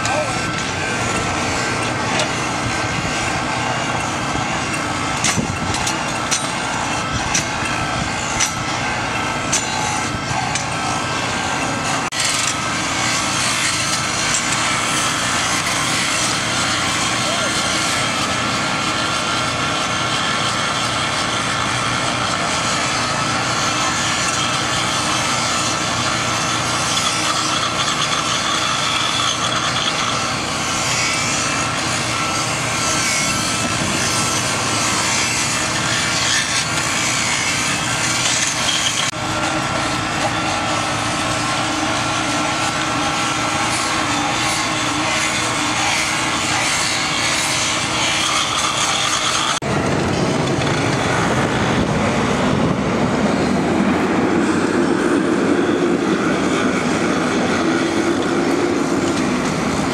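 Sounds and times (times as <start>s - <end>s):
rail grinder grinding steel: 0.0s - 59.9s.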